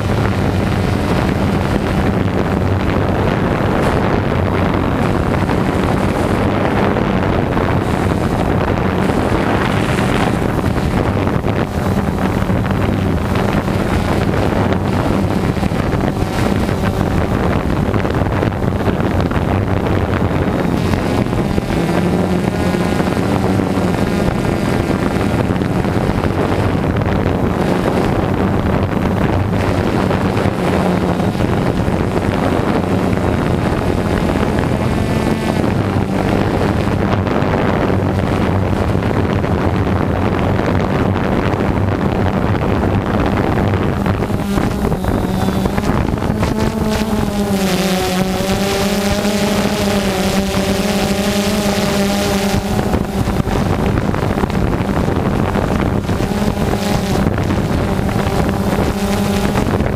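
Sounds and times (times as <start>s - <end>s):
drone motors whining: 0.0s - 40.0s, 42.8s - 59.9s.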